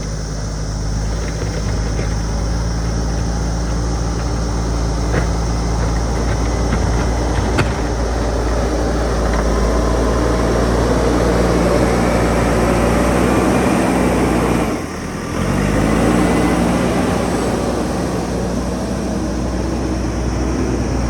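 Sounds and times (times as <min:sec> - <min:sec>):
diesel engine running and revving: 0:00.0 - 0:21.0.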